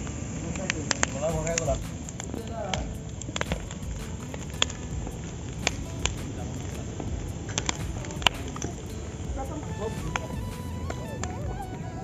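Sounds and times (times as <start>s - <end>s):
bonfire wood crackling and popping: 0.0s - 12.0s.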